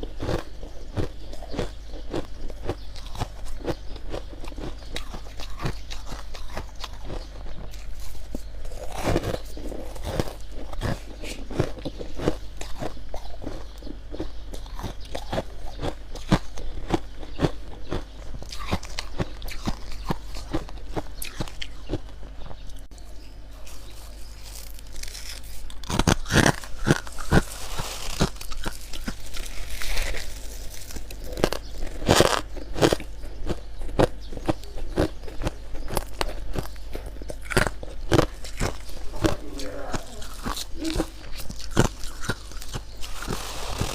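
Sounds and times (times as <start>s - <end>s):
mouth chewing frost crunches: 0.0s - 43.9s.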